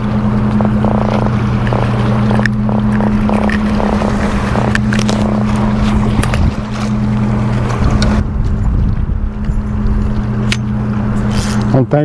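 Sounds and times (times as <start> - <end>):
wind noise: 0.0 - 11.7
boat motor humming: 0.0 - 12.0
water noise: 0.0 - 12.0.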